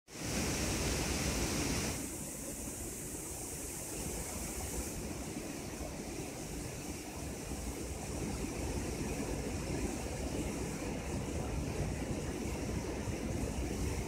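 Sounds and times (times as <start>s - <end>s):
river water rushing: 0.1s - 14.0s.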